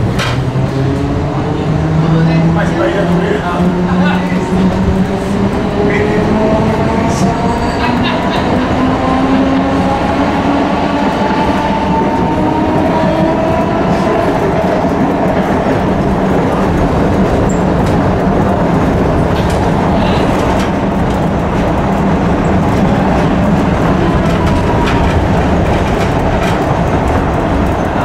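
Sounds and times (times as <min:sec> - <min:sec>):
tram motor whine: 0:00.0 - 0:28.0
tram wheels rumbling on rails: 0:00.0 - 0:28.0.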